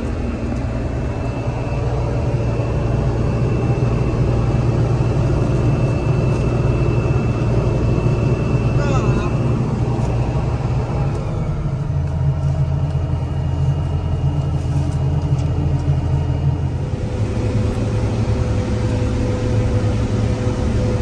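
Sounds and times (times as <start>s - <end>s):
combine harvester running: 0.0s - 21.0s
steady high whine: 0.0s - 21.0s.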